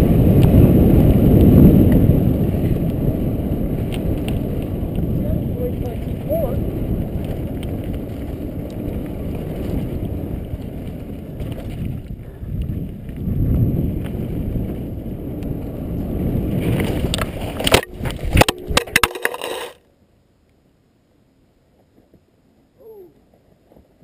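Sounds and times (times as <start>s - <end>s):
tyre and wind rumble: 0.0s - 19.8s.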